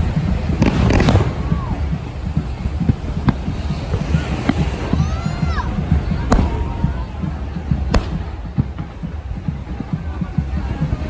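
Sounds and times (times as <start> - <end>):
firework booms: 0.0 - 10.8
firework crack: 0.0 - 11.0
steady rumble: 0.0 - 11.0.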